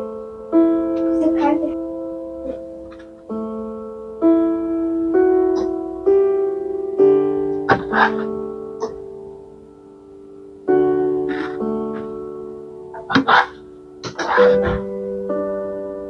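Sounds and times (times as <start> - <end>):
soft slow piano music: 0.0 - 16.0.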